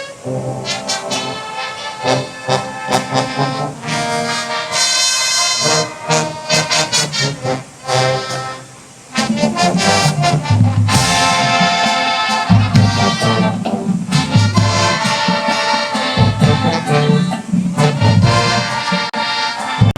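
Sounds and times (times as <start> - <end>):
marching band brass playing: 0.0 - 19.9.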